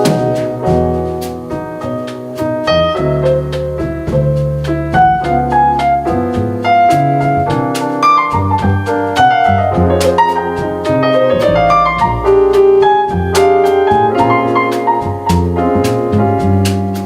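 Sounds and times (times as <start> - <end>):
double bass: 0.0 - 17.0
drums and cymbals: 0.0 - 17.0
jazz piano: 0.0 - 17.0.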